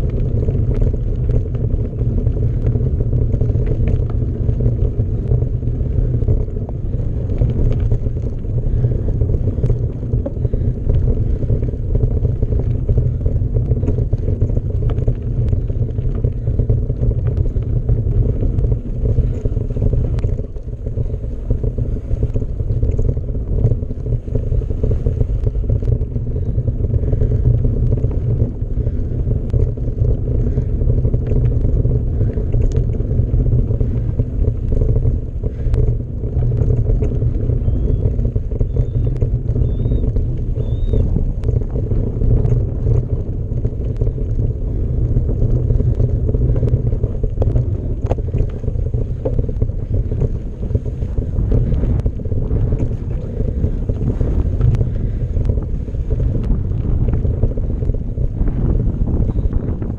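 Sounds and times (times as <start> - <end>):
bike clicks and rattles: 0.0 - 59.9
bike tyres rolling rumble: 0.0 - 59.9
wind on microphone: 0.0 - 59.9.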